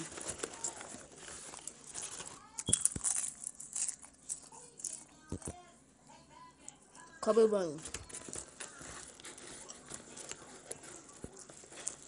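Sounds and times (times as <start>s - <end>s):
popcorn crinkling and crunching: 0.0s - 5.6s, 7.8s - 12.0s.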